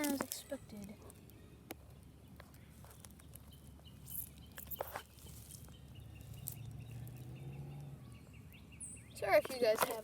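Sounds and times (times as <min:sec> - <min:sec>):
rustling leaves and clicks: 0:00.0 - 0:07.9, 0:09.3 - 0:10.0.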